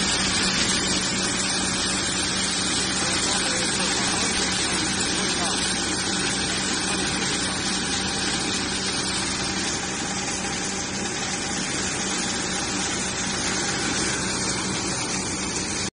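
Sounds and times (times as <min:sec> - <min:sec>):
thresher running: 0:00.0 - 0:15.9.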